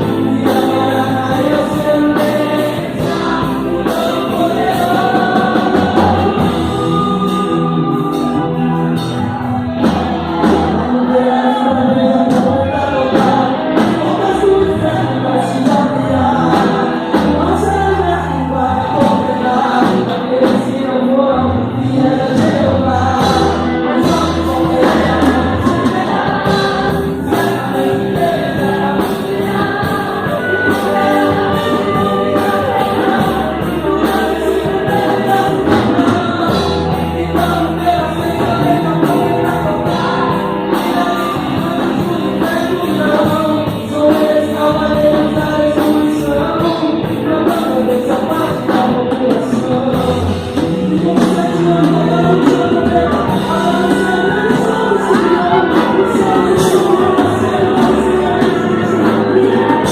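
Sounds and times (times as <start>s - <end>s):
choir singing: 0.0s - 21.1s, 21.7s - 46.6s, 47.3s - 59.9s
gospel band playing: 0.0s - 59.9s.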